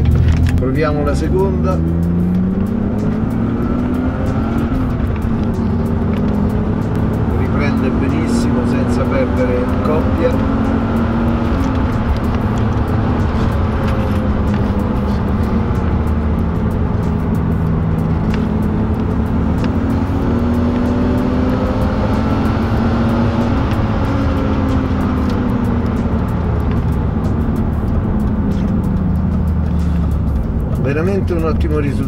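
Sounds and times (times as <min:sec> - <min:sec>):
car engine accelerating: 0:00.0 - 0:32.0
road and tyre noise: 0:00.0 - 0:32.0.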